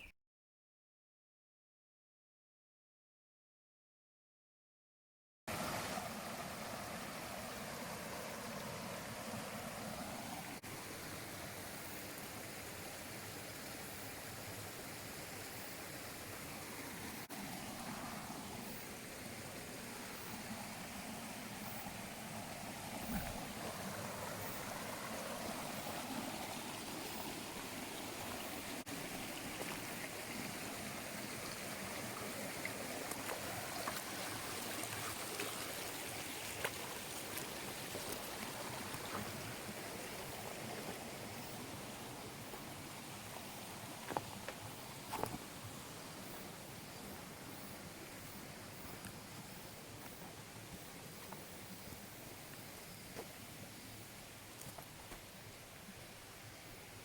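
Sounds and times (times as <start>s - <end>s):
stream water rushing: 5.5s - 57.0s.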